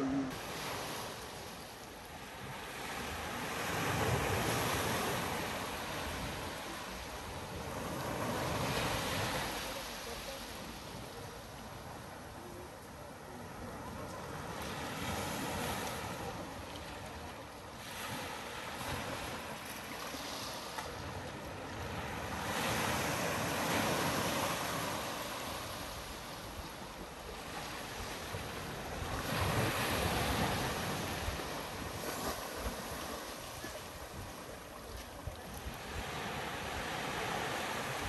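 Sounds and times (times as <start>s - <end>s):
surf washing onto sandy beach: 0.0s - 38.0s.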